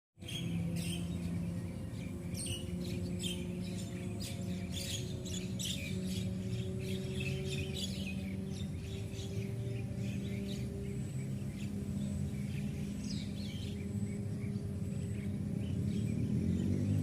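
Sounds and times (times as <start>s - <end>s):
birds chirping and squawking: 0.2s - 17.0s
steady low hum: 0.2s - 17.0s.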